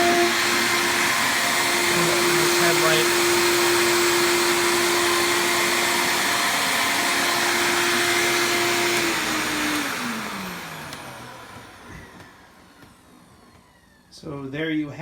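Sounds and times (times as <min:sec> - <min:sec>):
vacuum cleaner running: 0:00.0 - 0:14.4.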